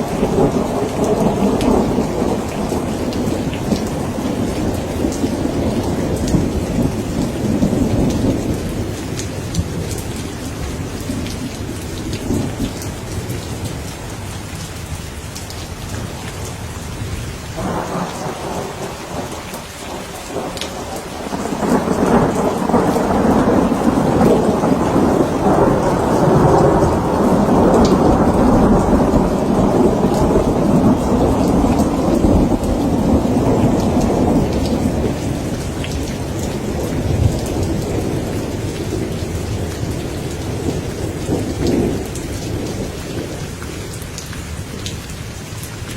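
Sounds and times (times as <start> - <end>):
thunder rumbling: 0.0 - 13.8, 15.9 - 44.0
steady rain falling: 0.0 - 45.9.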